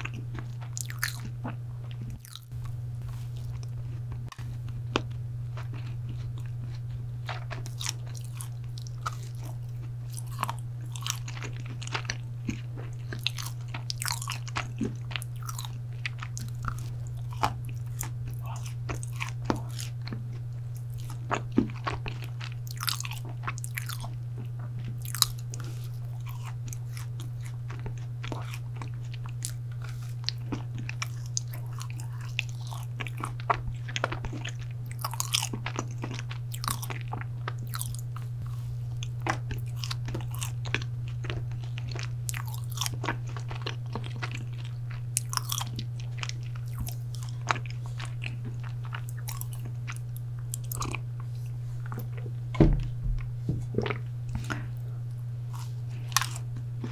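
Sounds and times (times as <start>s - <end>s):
chewing brownie: 0.0s - 52.9s, 53.6s - 56.9s
steady low hum: 0.0s - 56.9s.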